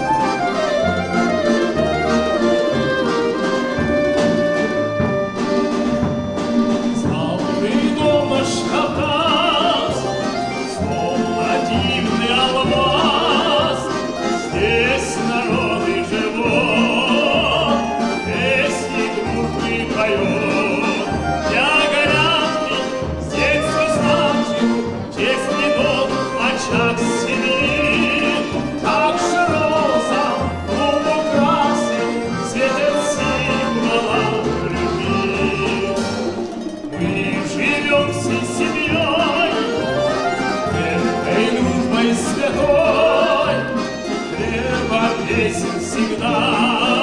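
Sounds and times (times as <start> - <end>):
double bass: 0.0 - 47.0
plucked string folk orchestra: 0.0 - 47.0
person singing with vibrato: 7.0 - 47.0.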